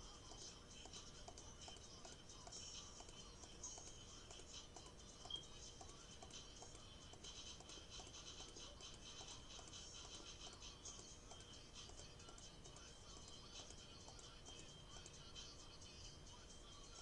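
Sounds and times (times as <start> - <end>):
computer mouse clicks: 0.2 - 15.5.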